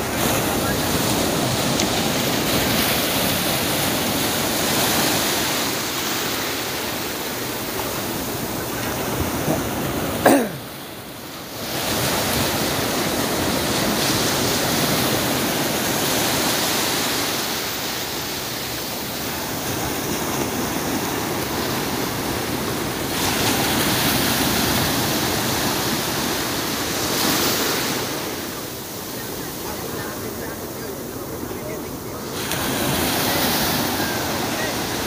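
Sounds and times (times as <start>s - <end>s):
small waves breaking: 0.0s - 35.0s.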